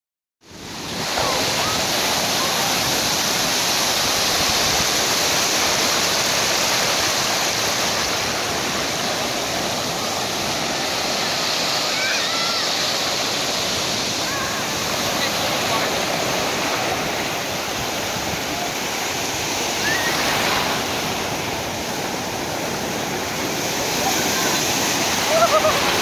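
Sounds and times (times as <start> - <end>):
ocean surf breaking: 0.4 - 26.0.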